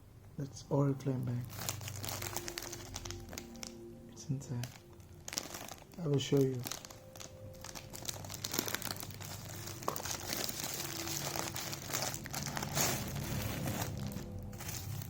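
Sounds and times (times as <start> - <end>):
packaging crinkling and rustling: 1.4 - 15.0.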